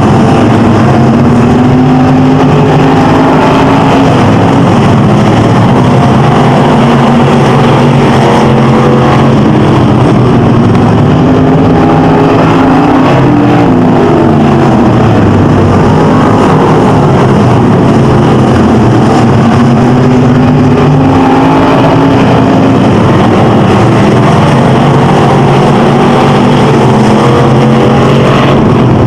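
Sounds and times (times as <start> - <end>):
race car engines passing: 0.0 - 29.0.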